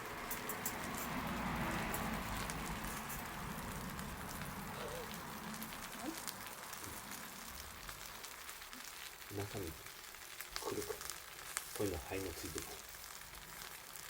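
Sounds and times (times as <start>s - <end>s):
campfire sizzling and hissing: 0.0s - 14.0s
fire crackles: 0.0s - 14.0s.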